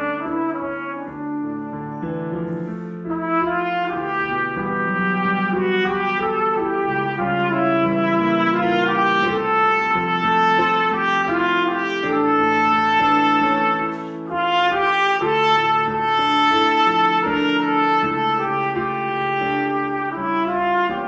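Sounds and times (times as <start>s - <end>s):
slow legato brass music: 0.0s - 21.0s.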